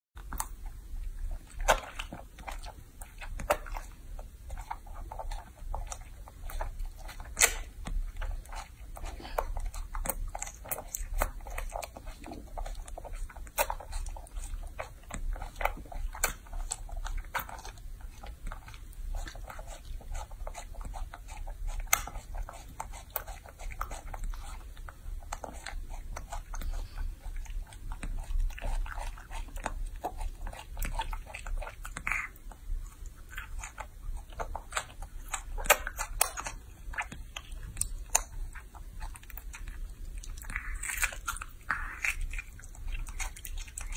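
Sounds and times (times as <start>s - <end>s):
monkey chewing and smacking: 0.2s - 43.9s.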